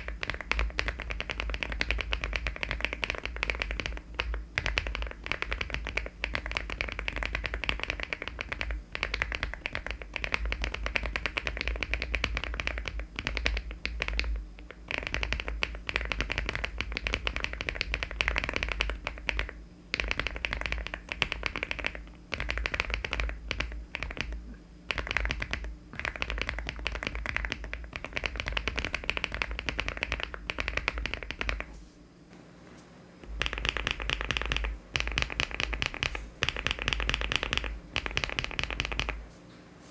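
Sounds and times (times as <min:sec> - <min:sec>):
mechanical keyboard typing: 0:00.0 - 0:31.8, 0:33.2 - 0:39.2.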